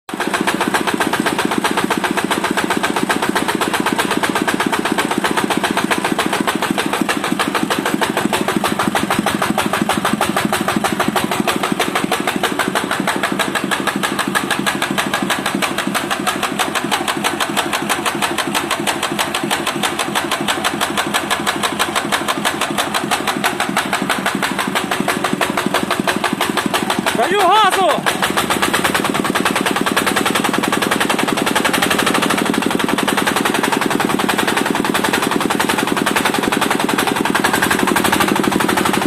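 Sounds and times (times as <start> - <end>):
tractor engine idling with a knock: 0.1 - 39.0.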